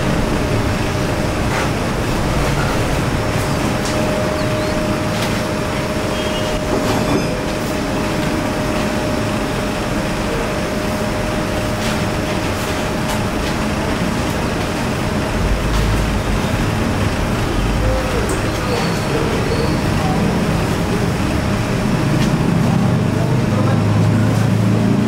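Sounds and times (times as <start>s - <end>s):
workshop machinery hum: 0.0s - 25.0s.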